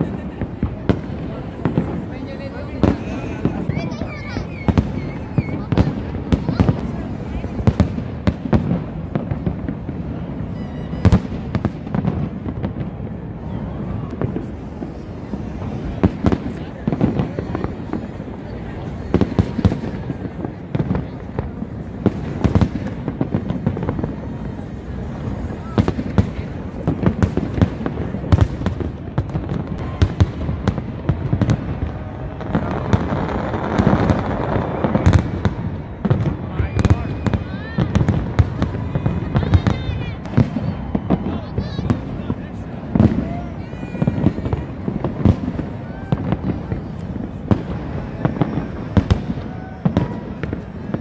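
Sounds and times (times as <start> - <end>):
fireworks booming and crackling: 0.0 - 51.0
sharp fireworks bangs: 0.0 - 51.0.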